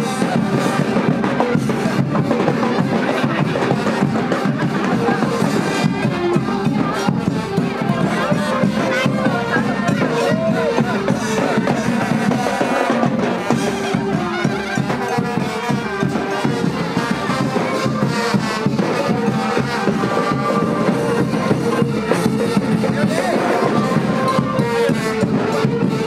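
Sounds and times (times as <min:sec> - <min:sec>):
busy musical accompaniment: 0:00.0 - 0:26.0
wind instrument melody: 0:00.0 - 0:26.0.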